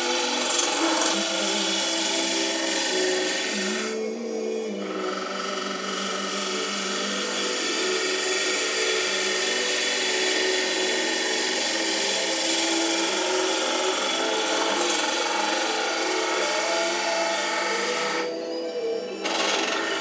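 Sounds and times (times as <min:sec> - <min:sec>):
spinning wood hissing against tool: 0:00.0 - 0:04.1, 0:04.7 - 0:18.4, 0:19.2 - 0:20.0
wood lathe humming: 0:00.0 - 0:20.0.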